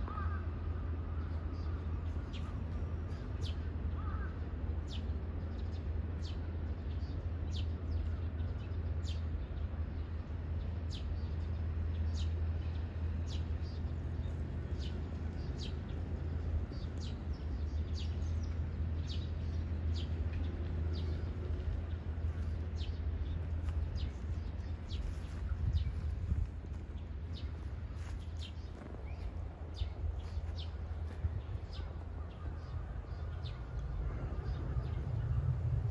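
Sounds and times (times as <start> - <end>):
steady low rumble: 0.0 - 35.9
small birds chirping: 4.9 - 35.5.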